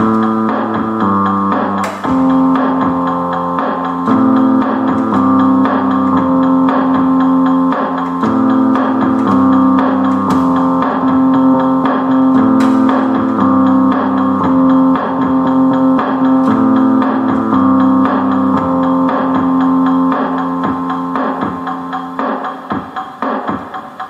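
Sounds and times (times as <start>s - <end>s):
instrumental guitar and keyboard music: 0.0s - 24.0s.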